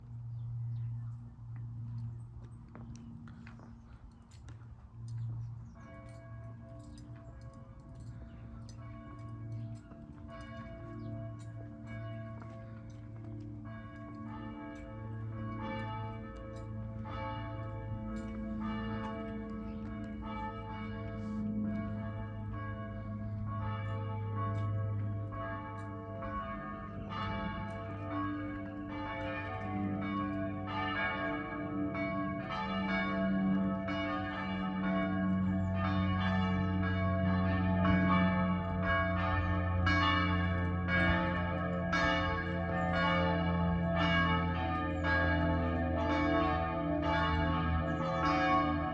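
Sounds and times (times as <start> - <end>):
church bells ringing: 3.3 - 48.9.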